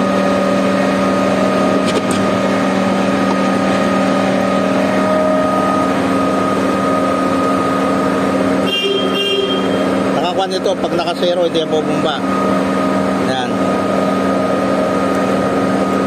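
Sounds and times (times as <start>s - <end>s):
concrete pump droning: 0.0s - 16.0s.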